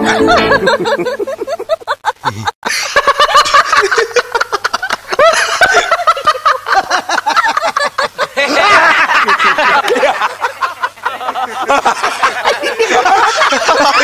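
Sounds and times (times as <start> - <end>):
men laughing loudly: 0.0 - 14.0.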